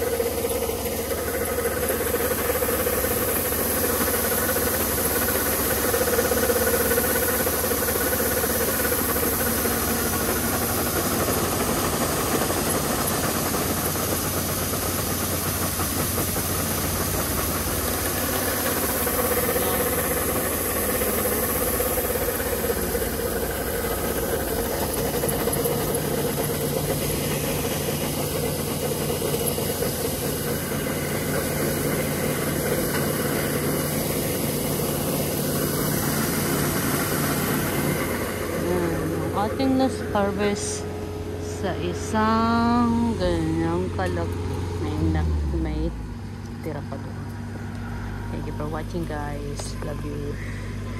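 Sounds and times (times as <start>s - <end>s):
grain pouring hiss: 0.0s - 42.3s
diesel engine running: 0.0s - 50.9s
low hum: 8.8s - 50.9s.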